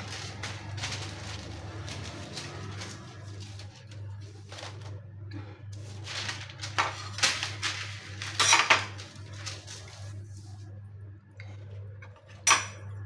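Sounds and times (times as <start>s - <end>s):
baking paper crinkling: 0.0s - 10.8s
low steady hum: 0.0s - 13.0s.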